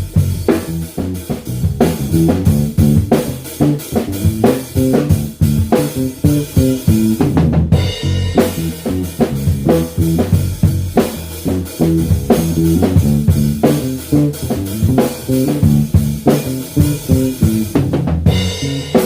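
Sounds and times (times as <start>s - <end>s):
electric bass bassline: 0.0s - 19.0s
steady drum beat: 0.0s - 19.0s.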